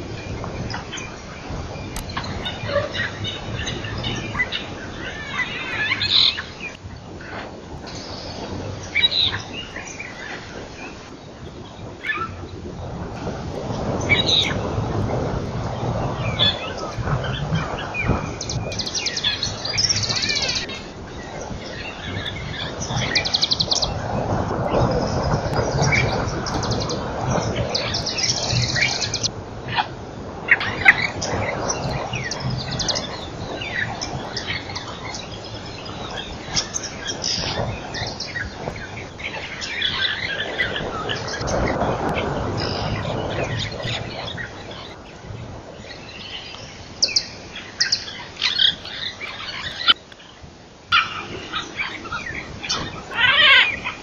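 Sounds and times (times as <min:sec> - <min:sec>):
birds chirping and calling: 0:00.0 - 0:12.5, 0:13.7 - 0:54.0.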